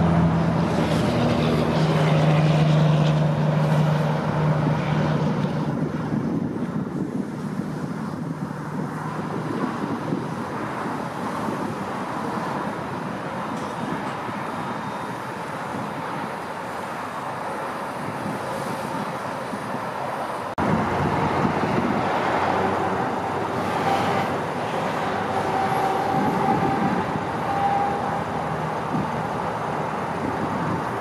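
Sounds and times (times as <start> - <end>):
highway traffic noise: 0.0 - 31.0.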